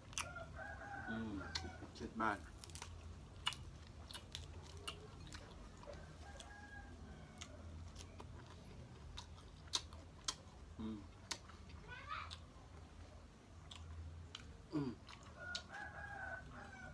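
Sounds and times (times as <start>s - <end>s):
chewing with wet mouth clicks: 0.0s - 0.4s, 2.4s - 16.0s.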